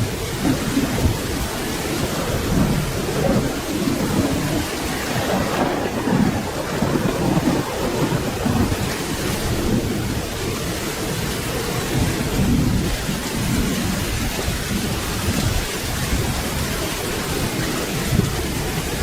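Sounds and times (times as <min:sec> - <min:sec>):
low rolling thunder: 0:00.0 - 0:19.0
steady rain falling: 0:00.0 - 0:19.0.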